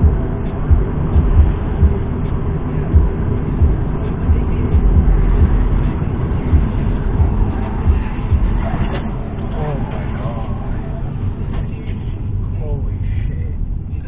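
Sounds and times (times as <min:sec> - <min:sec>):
low thumps: 0:00.0 - 0:12.5
car road rumble inside cabin: 0:00.0 - 0:14.0.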